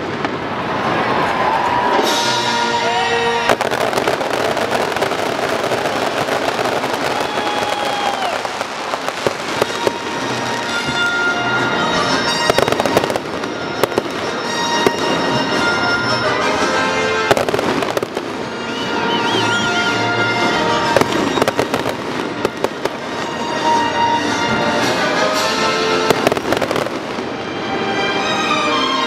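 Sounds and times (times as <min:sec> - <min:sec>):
fireworks bursting and crackling: 0:00.0 - 0:28.7
music: 0:01.7 - 0:29.0.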